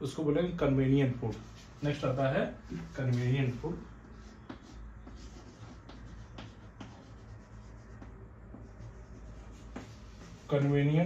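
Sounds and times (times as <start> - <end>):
chalk scratching on chalkboard: 1.3 - 11.0.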